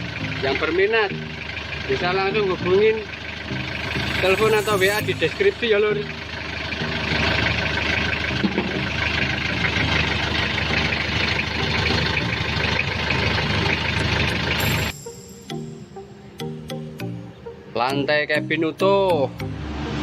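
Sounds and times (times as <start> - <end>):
diesel engine idling: 0.0 - 19.7.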